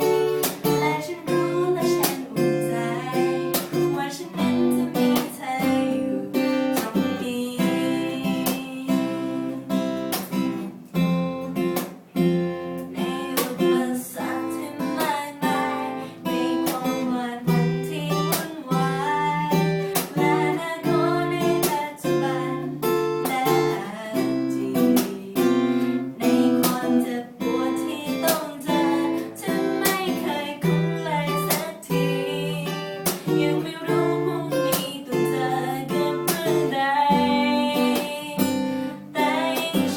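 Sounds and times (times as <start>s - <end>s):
person singing: 0.0s - 9.8s, 12.9s - 39.9s
acoustic guitar strumming: 0.0s - 39.9s.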